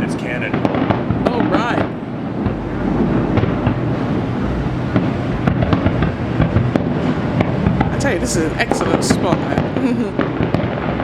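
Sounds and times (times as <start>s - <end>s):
fireworks booming: 0.0s - 11.0s
fireworks crackling pops: 0.0s - 11.0s.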